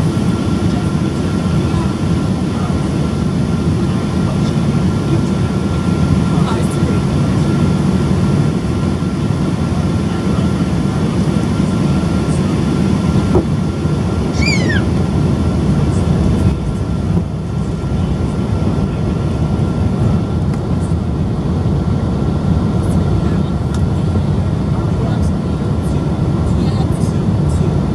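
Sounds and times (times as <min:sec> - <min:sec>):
jet engine rumble: 0:00.0 - 0:27.9.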